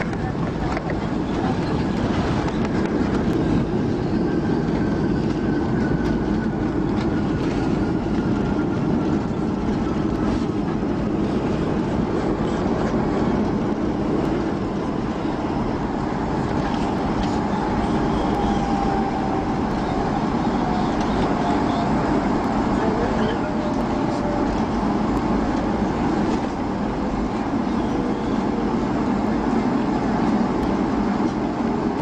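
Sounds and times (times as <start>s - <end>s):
jet engine cabin rumble: 0.0s - 32.0s.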